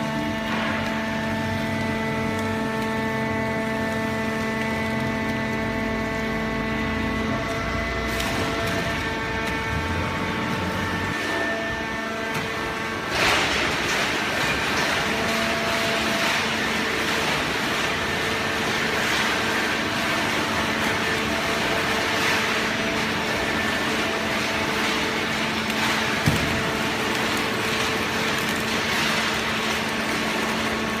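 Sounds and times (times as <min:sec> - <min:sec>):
baler machine drone: 0:00.0 - 0:31.0.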